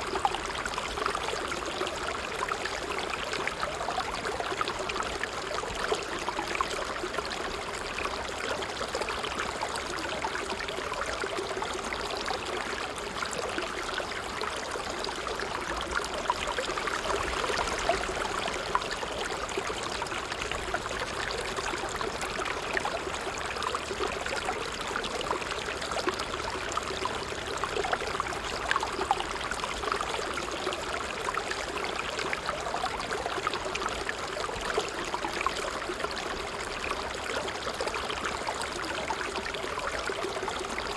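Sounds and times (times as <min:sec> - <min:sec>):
water trickling over stones: 0:00.0 - 0:40.9.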